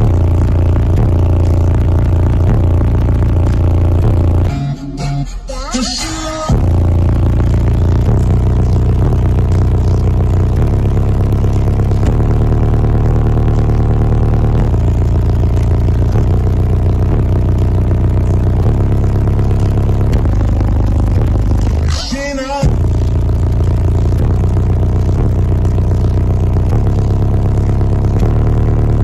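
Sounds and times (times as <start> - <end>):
loud subwoofer bass: 0.0 - 29.0.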